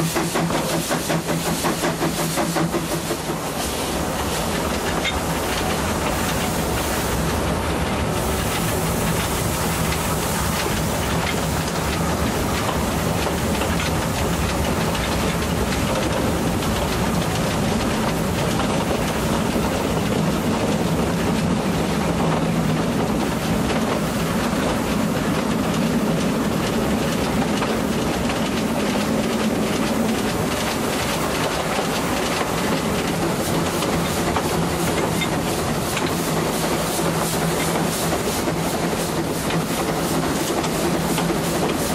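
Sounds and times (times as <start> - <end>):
steam hiss: 0.0 - 41.9
train wheels rumbling on rail: 0.0 - 41.9.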